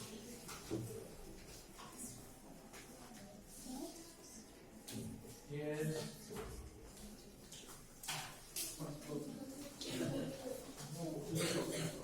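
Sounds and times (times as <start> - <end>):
faint classroom background noise: 0.0 - 12.0.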